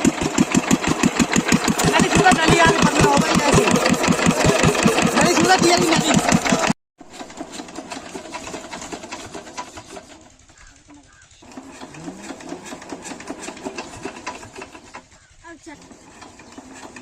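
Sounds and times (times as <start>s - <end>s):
diesel water pump engine chugging: 0.0s - 17.0s.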